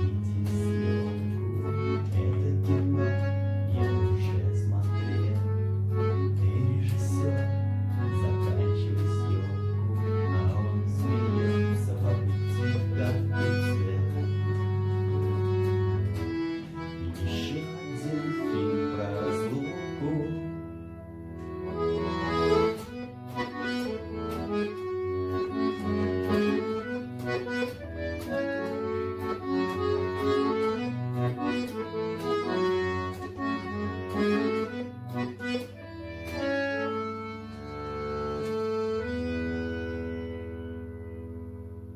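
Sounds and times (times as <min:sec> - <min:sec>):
button accordion playing melody: 0:00.0 - 0:41.9.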